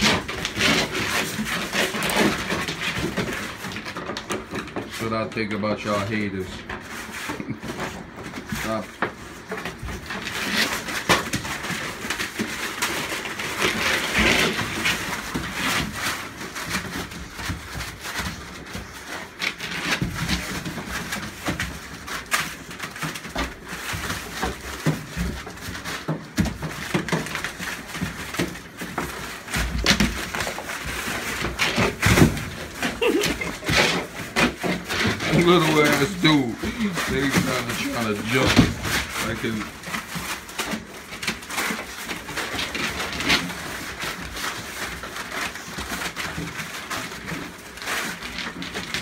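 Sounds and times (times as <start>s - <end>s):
newspaper crinkling: 0.0s - 49.0s.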